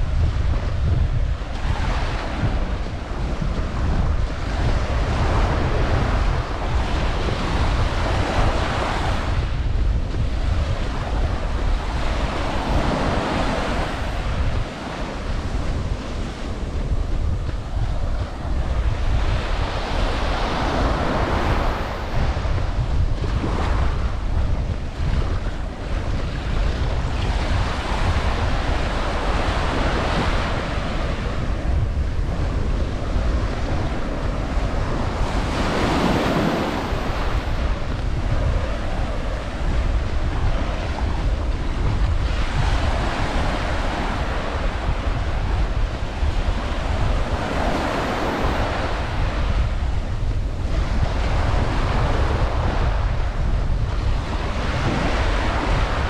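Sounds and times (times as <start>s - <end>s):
waves breaking on beach: 0.0s - 56.0s
wind on microphone: 0.0s - 56.0s.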